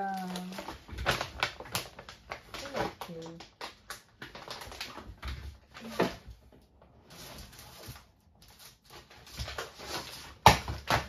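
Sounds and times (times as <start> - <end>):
rustling of papers: 0.0 - 11.0.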